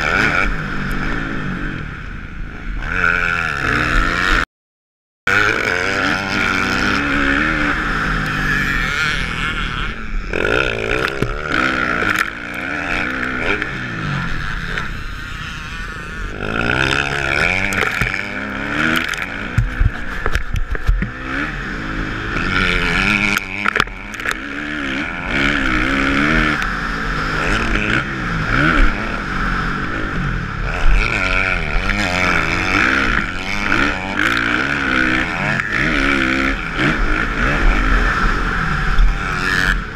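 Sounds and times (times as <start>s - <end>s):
motocross bike engine revving: 0.0s - 4.4s, 5.3s - 39.9s.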